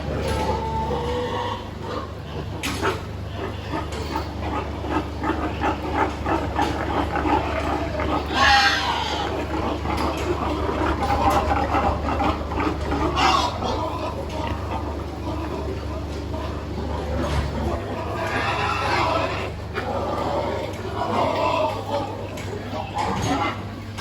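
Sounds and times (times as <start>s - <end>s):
pig squealing: 0.0s - 23.8s
pigs grunting: 0.0s - 24.0s
steady low hum: 0.0s - 24.0s.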